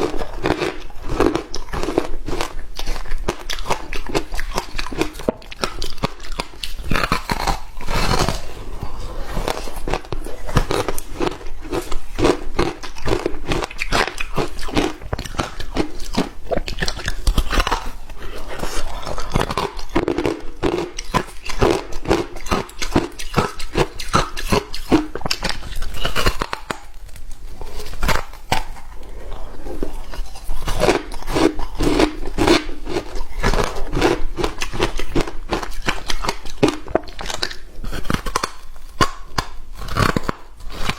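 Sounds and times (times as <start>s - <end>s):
ice crunching being chewed: 0.0s - 40.9s.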